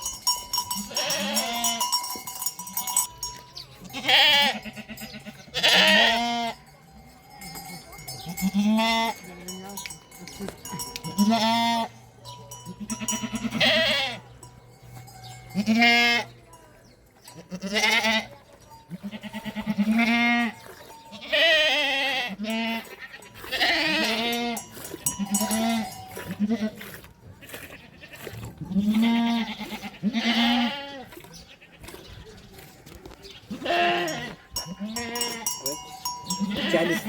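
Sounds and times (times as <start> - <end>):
sheep and goats bleating: 0.0 - 16.5, 17.2 - 32.1, 33.4 - 37.0.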